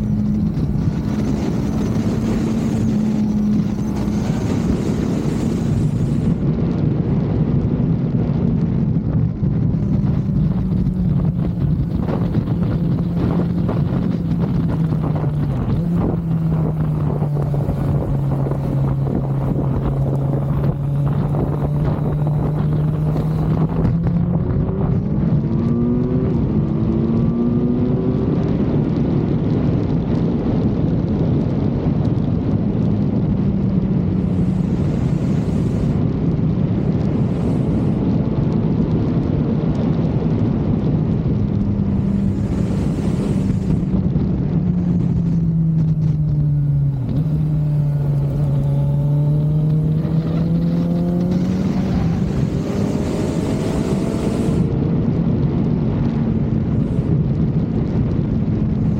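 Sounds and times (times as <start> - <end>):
motorcycle engine accelerating: 0.0 - 58.9
rushing wind: 0.0 - 58.9.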